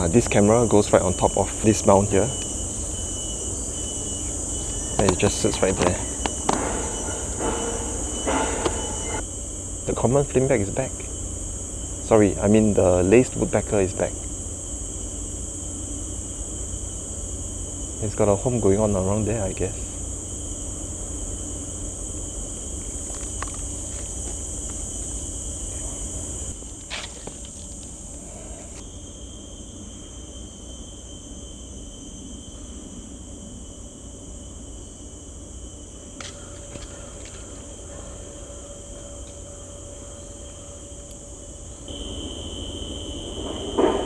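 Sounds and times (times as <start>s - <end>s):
high-pitched insect buzzing: 0.0s - 44.0s.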